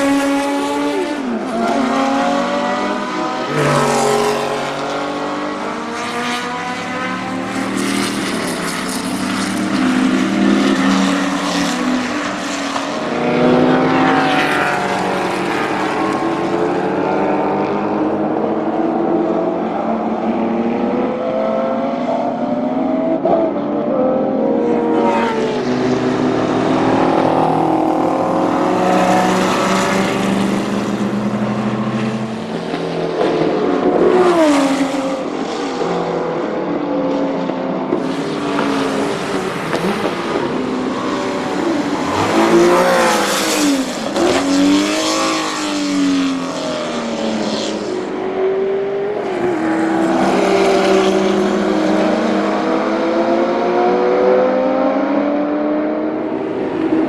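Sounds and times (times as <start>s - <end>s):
racing cars passing: 0.0s - 57.0s.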